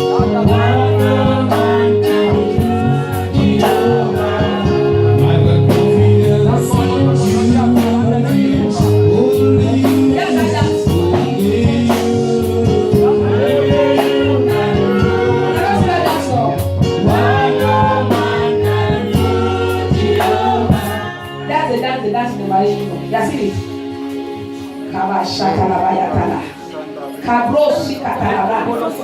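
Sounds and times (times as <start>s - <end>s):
gospel singing over a beat: 0.0s - 29.0s
sustained keyboard chords: 0.0s - 29.0s.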